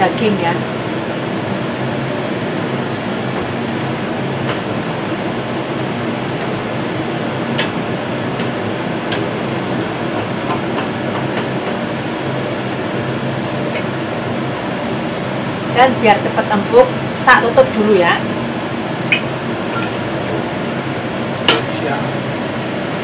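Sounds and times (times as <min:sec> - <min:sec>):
range hood fan humming: 0:00.0 - 0:23.0.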